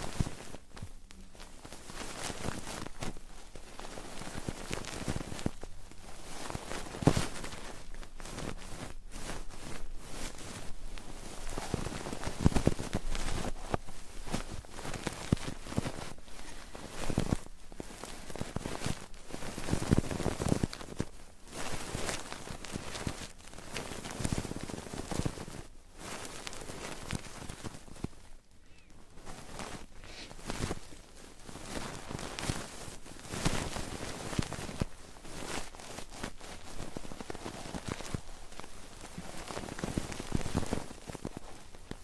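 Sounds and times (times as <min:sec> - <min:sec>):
crackly scratching at microphone: 0:00.0 - 0:42.0.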